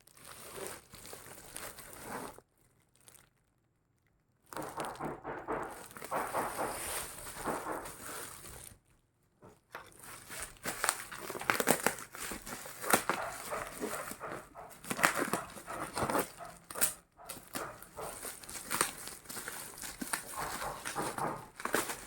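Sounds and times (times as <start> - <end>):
packaging crinkling and rustling: 0.0 - 3.6, 4.4 - 8.8, 9.4 - 22.0.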